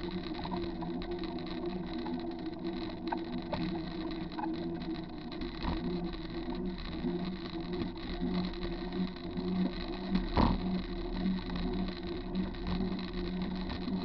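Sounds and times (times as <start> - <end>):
bicycle rolling on wet pavement: 0.0 - 14.0.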